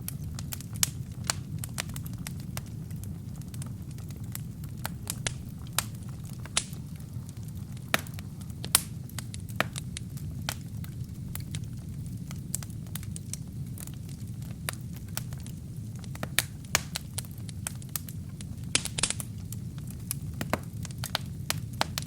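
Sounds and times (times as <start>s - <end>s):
fire hissing: 0.0s - 22.0s
low rumble of flames: 0.0s - 22.0s
wood fire crackling and popping: 0.0s - 22.0s.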